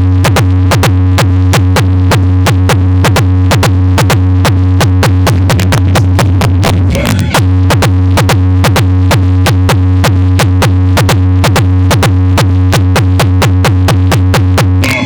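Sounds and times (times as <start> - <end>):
loud electronic music with heavy bass: 0.0 - 15.0.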